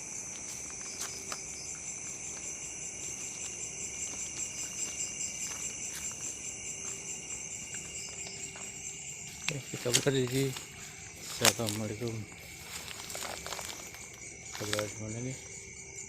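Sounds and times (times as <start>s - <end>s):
crickets chirping high trill: 0.0s - 16.0s
lower steady insect trill: 0.0s - 16.0s.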